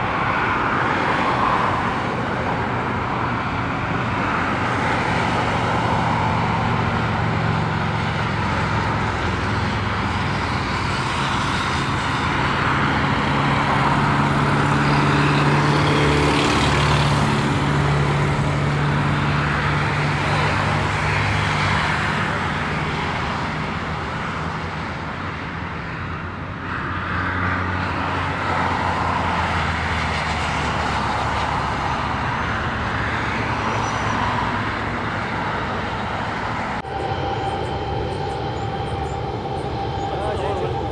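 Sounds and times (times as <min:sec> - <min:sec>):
jet engines rumbling: 0:00.0 - 0:40.9.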